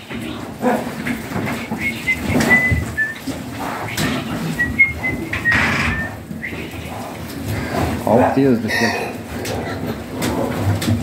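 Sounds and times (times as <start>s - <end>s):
pigs grunting: 0.0s - 11.0s.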